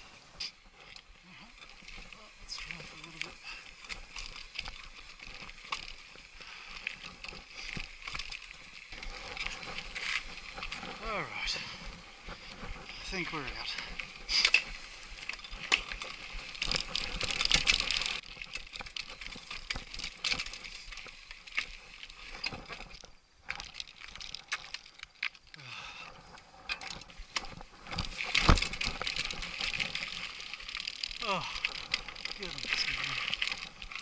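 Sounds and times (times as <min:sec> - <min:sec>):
bike rattling over bumps: 0:00.0 - 0:34.0
bike tyres crunching over stones: 0:00.0 - 0:34.0.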